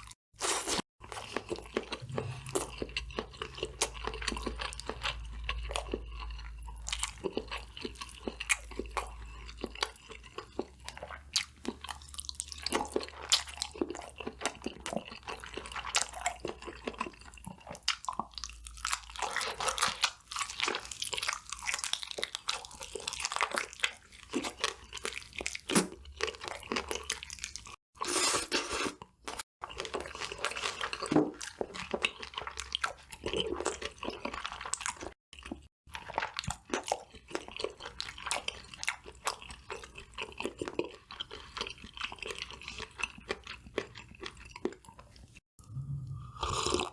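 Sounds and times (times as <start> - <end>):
chewing crispy fried food: 0.0 - 28.2, 28.9 - 45.4.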